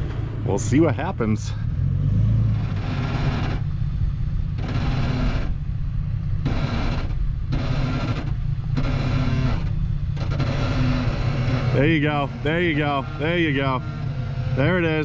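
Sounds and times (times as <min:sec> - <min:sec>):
off-road engine running low: 0:00.0 - 0:15.0.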